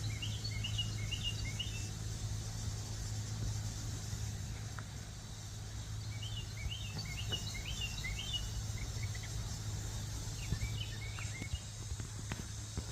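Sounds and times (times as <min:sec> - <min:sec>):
wren chirping song: 0:00.0 - 0:12.8.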